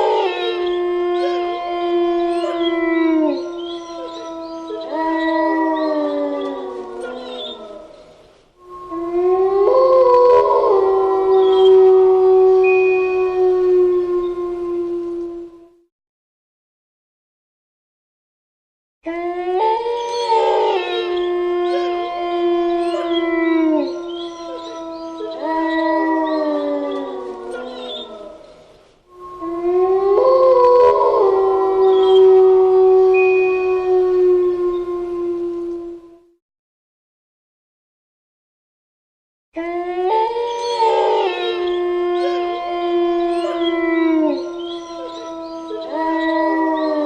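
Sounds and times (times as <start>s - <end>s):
wolves howling: 0.0s - 15.8s, 19.0s - 36.3s, 39.6s - 47.0s.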